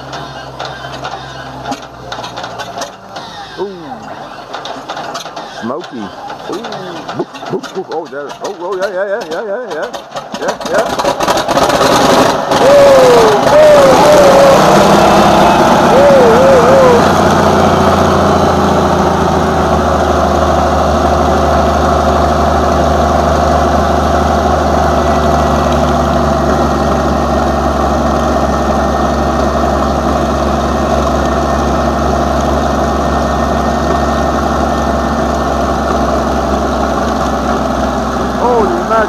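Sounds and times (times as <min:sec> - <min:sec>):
tank engine running: 0:00.0 - 0:39.0.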